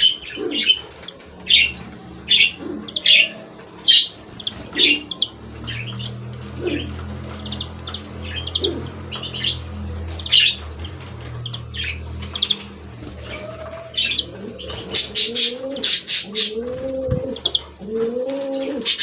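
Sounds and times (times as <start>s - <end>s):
finches chirping and twittering: 0.0s - 19.0s
steady low hum: 0.0s - 19.0s.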